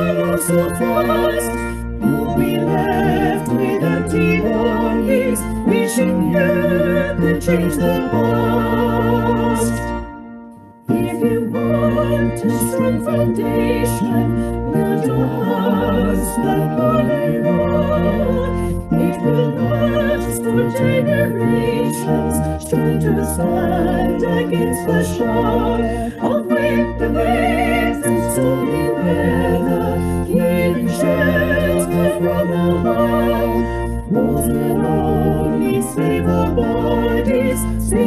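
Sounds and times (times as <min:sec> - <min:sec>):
hymn sung with vibrato: 0:00.0 - 0:10.0, 0:10.9 - 0:38.0.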